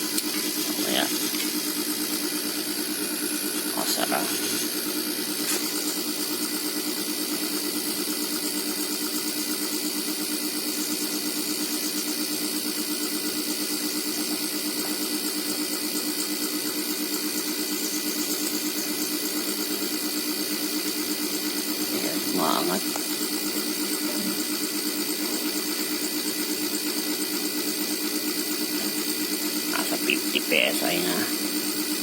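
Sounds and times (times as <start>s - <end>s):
air compressor humming: 0.0s - 32.0s.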